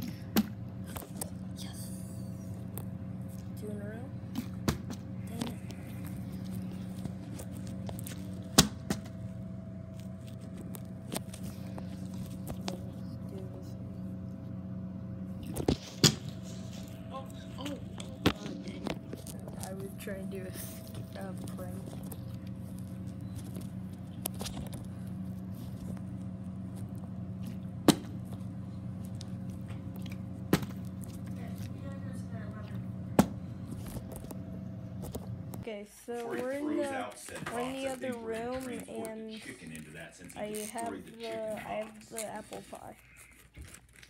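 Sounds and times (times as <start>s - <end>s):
low room hum: 0.0s - 44.0s.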